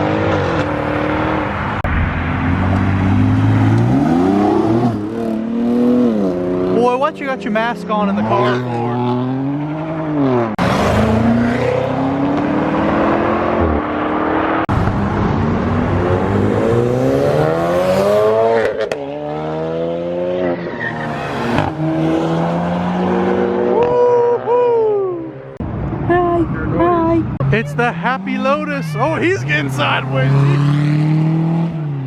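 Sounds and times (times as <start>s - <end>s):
cars accelerating hard: 0.0s - 32.0s
exhaust and tyre noise: 0.0s - 32.0s.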